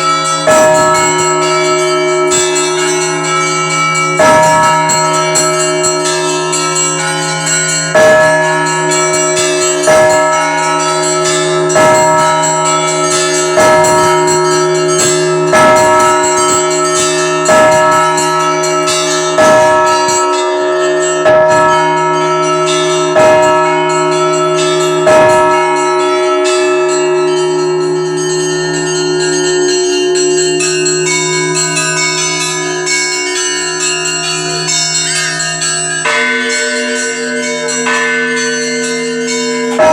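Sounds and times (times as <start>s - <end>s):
deep bell strokes: 0.0s - 39.9s
small bells chiming rapidly: 0.0s - 39.9s.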